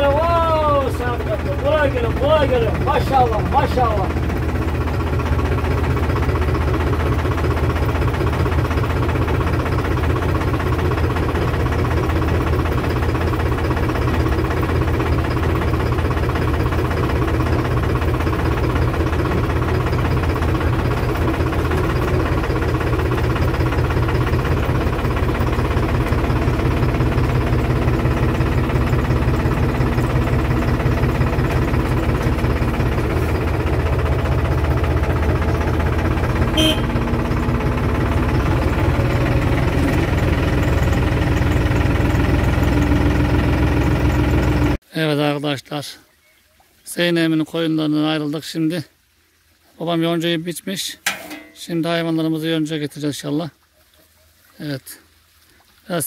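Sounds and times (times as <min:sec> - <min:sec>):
tractor diesel engine running: 0:00.0 - 0:44.9, 0:51.0 - 0:53.5.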